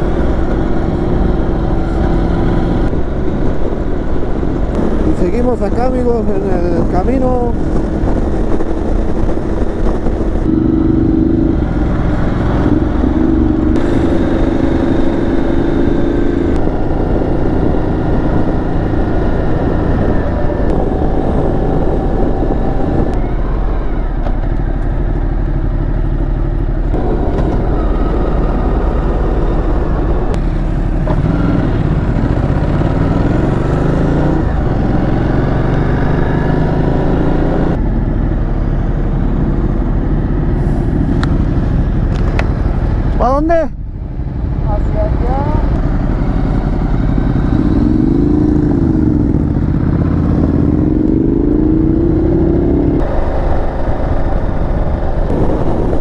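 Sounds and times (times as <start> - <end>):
wind rushing: 0.0 - 24.6, 26.9 - 56.0
motorcycle engine accelerating: 0.0 - 56.0.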